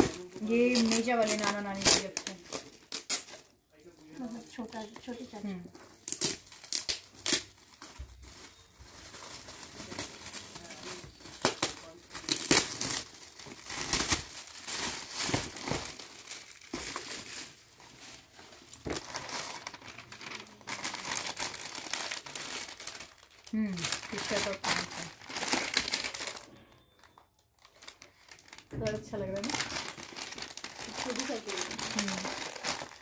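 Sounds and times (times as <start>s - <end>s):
wrapping paper crinkling: 0.0s - 33.0s.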